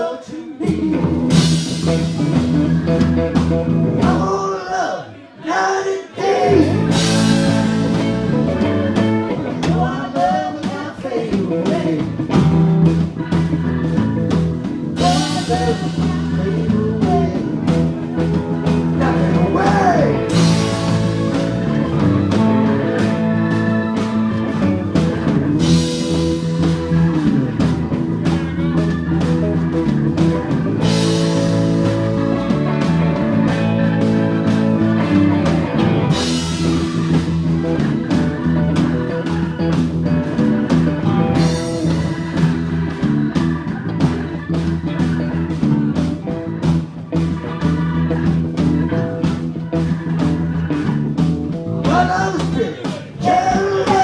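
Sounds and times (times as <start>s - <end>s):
rock band playing: 0.0s - 4.8s, 6.1s - 54.0s.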